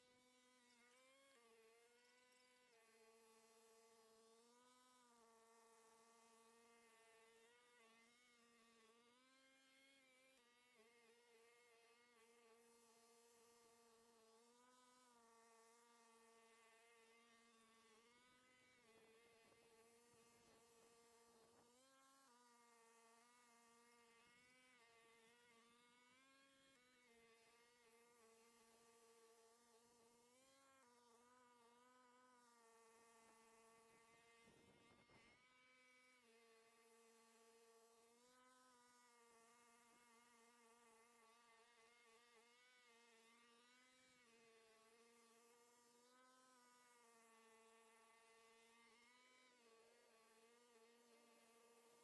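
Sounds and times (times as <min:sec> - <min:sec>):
faint buzzing hum: 0:00.0 - 0:52.0.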